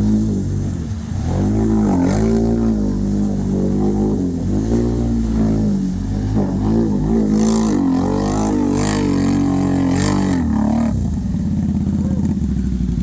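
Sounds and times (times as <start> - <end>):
engine revving and idling: 0.0 - 13.0.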